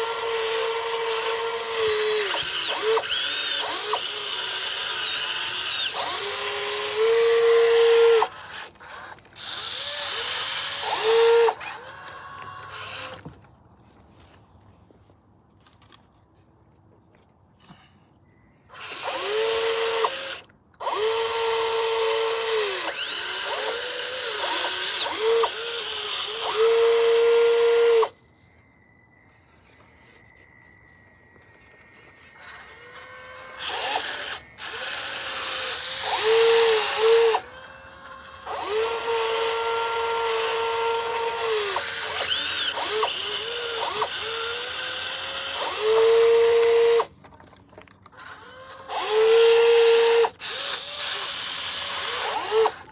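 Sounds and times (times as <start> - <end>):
electric motors whining: 0.0 - 13.2, 18.7 - 47.1, 48.1 - 52.9.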